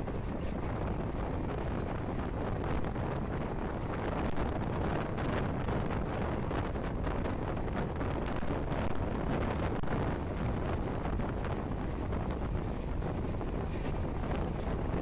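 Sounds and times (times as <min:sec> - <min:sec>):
moving train running noise: 0:00.0 - 0:15.0
wind blowing across microphone: 0:00.0 - 0:15.0.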